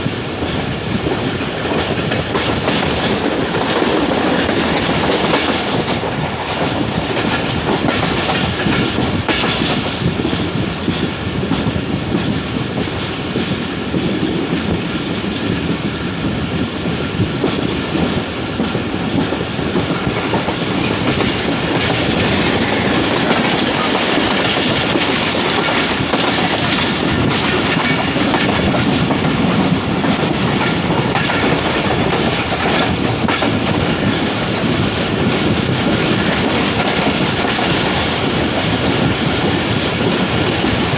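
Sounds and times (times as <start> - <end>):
train wheels rolling over rails: 0.0 - 40.9.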